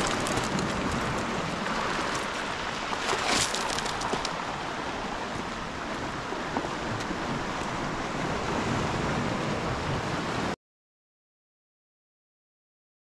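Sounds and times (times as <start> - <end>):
waves washing on pebbly shore: 0.0 - 10.6.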